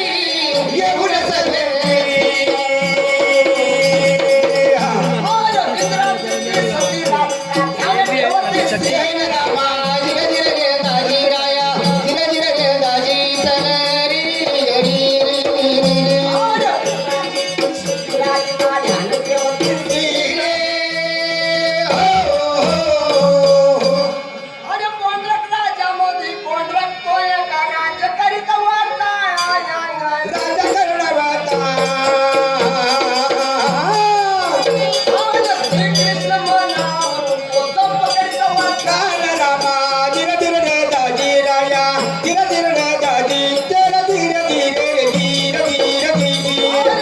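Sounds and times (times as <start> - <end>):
jingling shaker percussion: 0.0 - 24.4, 30.3 - 47.0
person singing: 0.0 - 25.3, 26.3 - 47.0
folk devotional melody: 0.0 - 47.0.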